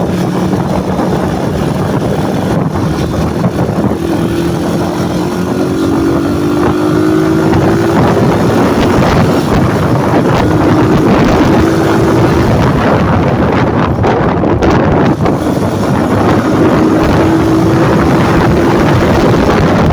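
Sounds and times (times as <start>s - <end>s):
motorcycle engine running: 0.0s - 19.9s
wind buffeting microphone: 0.0s - 19.9s.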